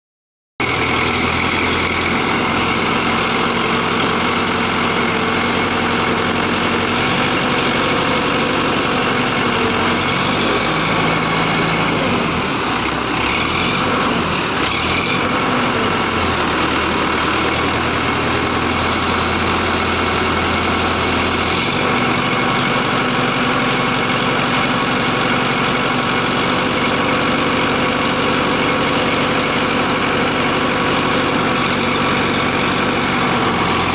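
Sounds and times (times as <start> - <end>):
diesel engine running: 0.6 - 33.9.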